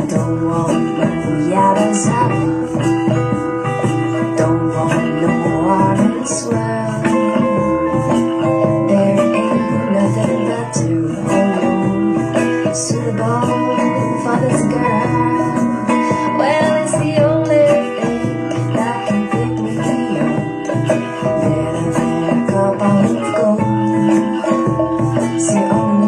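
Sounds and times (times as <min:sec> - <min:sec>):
song with guitar and singing: 0:00.0 - 0:26.0.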